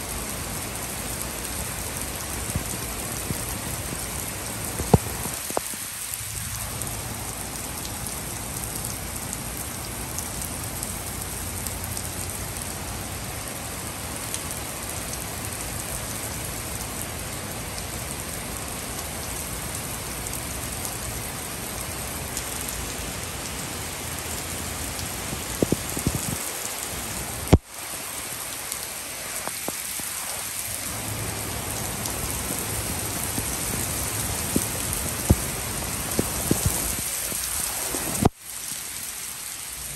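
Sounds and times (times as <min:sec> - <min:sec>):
heavy rain on a wooden deck: 0:00.0 - 0:39.9.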